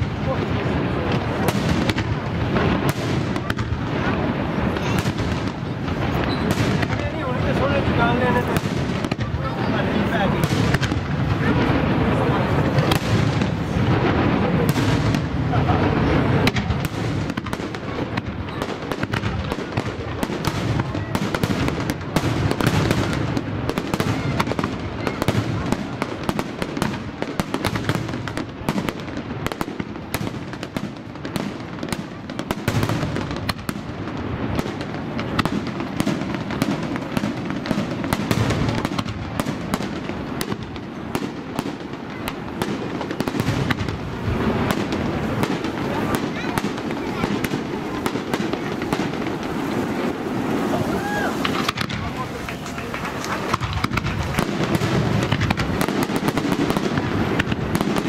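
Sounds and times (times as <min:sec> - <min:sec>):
fireworks cracking and banging: 0:00.0 - 0:58.0.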